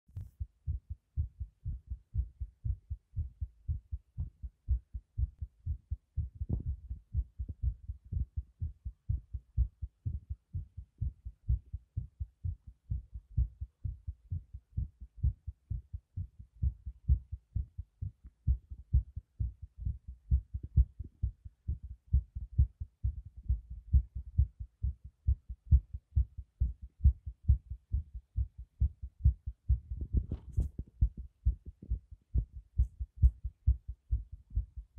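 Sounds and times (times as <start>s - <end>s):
heartbeat thumps: 0.1s - 34.9s.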